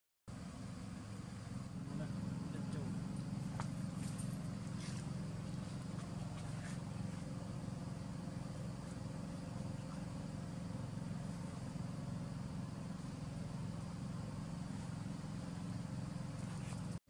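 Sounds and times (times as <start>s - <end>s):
low mechanical hum: 0.3s - 17.0s.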